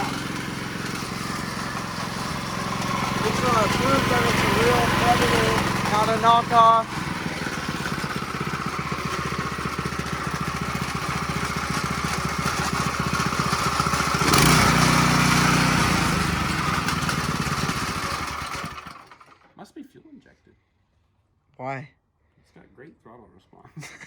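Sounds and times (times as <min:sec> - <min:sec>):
small engine idling and revving: 0:00.0 - 0:19.6.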